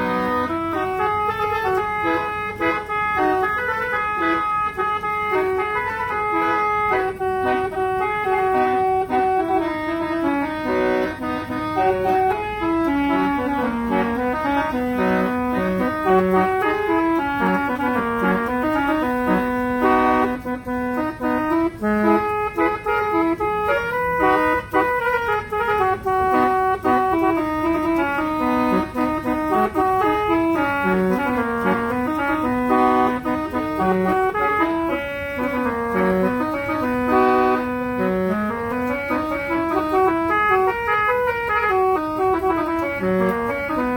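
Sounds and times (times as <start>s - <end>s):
multi-tone vehicle air horn tune: 0.0s - 43.9s.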